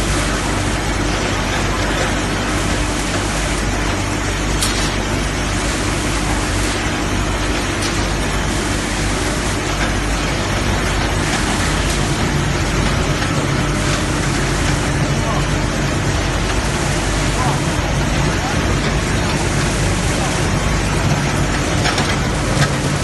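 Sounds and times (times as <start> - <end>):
sawdust processing machine running: 0.0 - 23.0.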